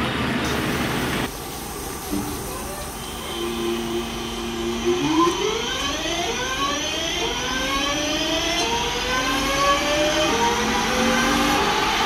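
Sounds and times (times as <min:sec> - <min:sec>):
electric train traction hum: 0:00.0 - 0:12.0
rising electric train whine: 0:00.0 - 0:12.0.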